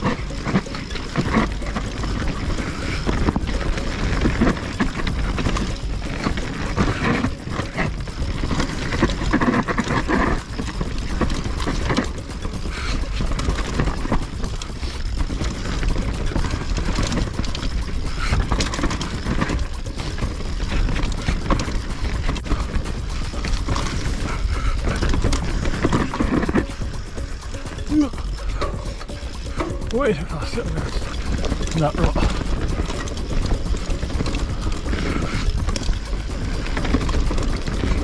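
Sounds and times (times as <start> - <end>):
bike clattering over bumps: 0.0 - 38.0
bike tyres on dirt: 0.0 - 38.0.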